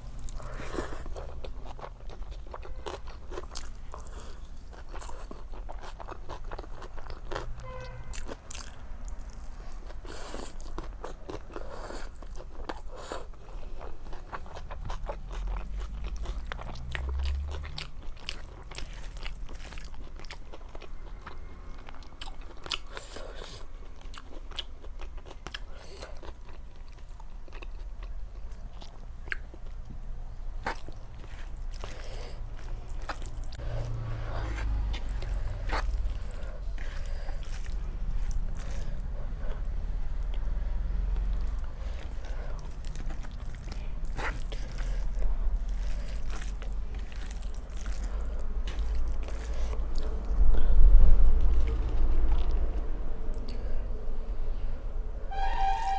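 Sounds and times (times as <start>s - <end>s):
person chewing crunchy food: 0.0s - 29.9s, 30.5s - 40.6s, 41.2s - 53.7s.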